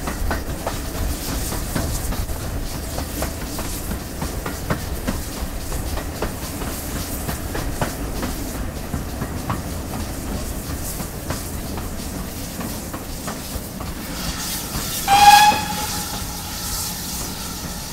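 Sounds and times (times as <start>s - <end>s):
steam locomotive rumble: 0.0s - 17.9s
faint hiss: 2.6s - 17.9s.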